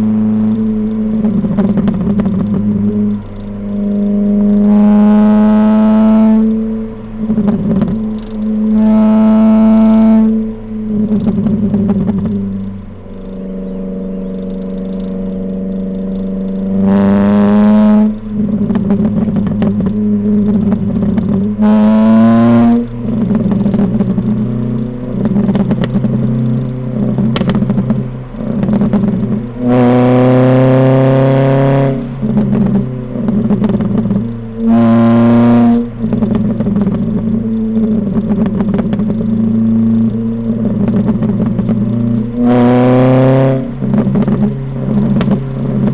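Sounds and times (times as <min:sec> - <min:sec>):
car engine accelerating: 0:00.0 - 0:45.9
exhaust pops and crackles: 0:00.0 - 0:45.9.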